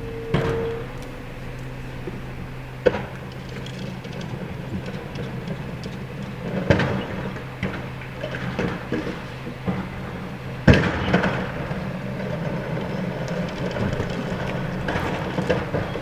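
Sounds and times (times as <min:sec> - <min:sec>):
garbage truck engine running: 0:00.0 - 0:16.0
knocks and clatter: 0:00.4 - 0:16.0.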